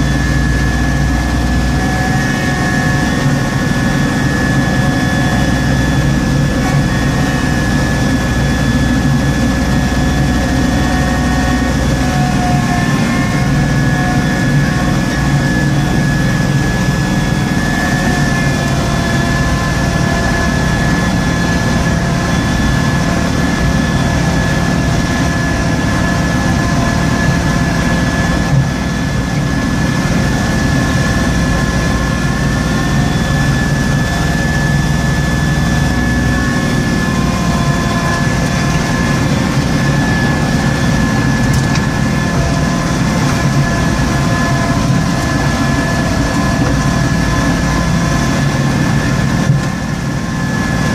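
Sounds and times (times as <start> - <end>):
steady high whine: 0.0 - 50.9
tractor engine and snowblower: 0.0 - 50.9.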